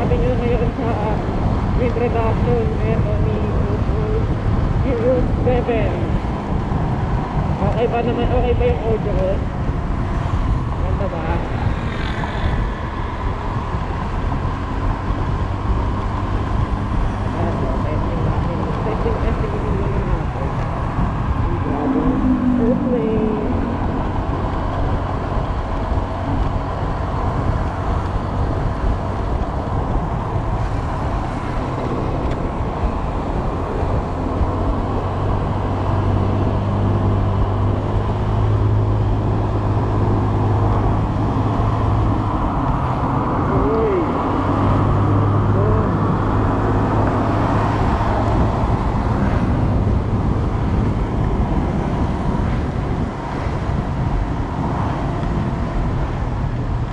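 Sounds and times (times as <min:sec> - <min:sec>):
scooter engine humming: 0:00.0 - 0:56.9
wind and road noise: 0:00.0 - 0:56.9.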